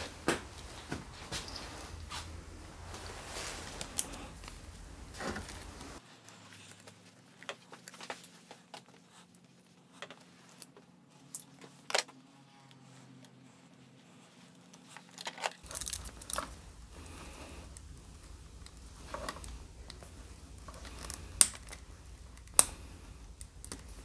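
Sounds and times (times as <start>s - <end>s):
wiring rustling and scraping: 0.0s - 12.1s, 12.9s - 24.0s.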